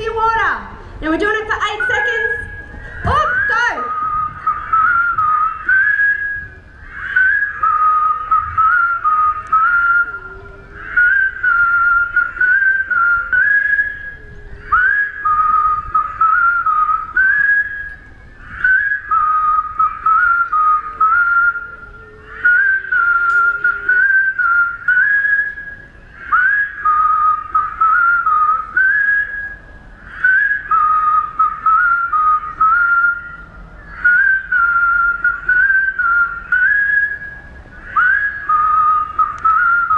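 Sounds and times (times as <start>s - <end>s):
crowd whistling: 0.0s - 39.9s
whistled tune: 1.7s - 39.9s.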